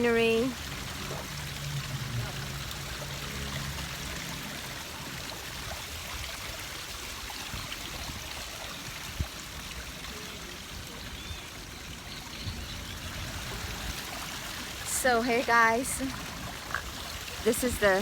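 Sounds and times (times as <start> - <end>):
rushing water-like background noise: 0.0 - 18.0.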